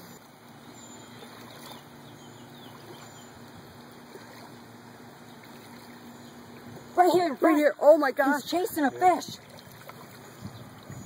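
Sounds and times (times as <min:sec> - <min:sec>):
boat motor humming: 0:00.0 - 0:11.0
water lapping along hull: 0:00.0 - 0:11.0.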